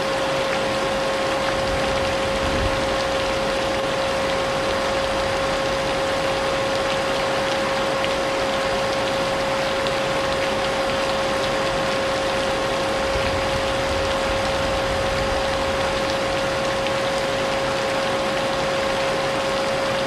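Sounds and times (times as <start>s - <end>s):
rain drop ticks: 1.4s - 20.0s.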